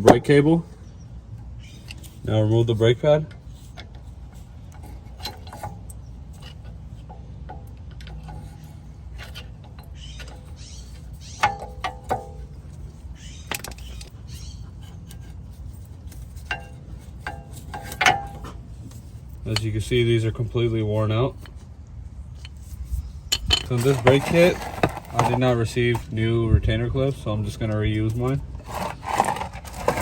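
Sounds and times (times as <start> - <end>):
steady low hum: 0.0 - 30.0
metallic clinks and scrapes: 1.7 - 26.1, 28.0 - 30.0.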